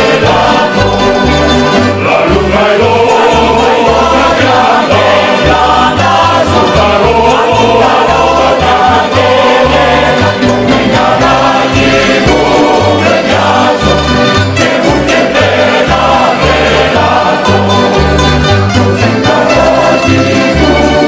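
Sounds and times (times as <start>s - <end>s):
bass line: 0.0s - 21.0s
string accompaniment: 0.0s - 21.0s
voices singing in harmony: 0.0s - 21.0s.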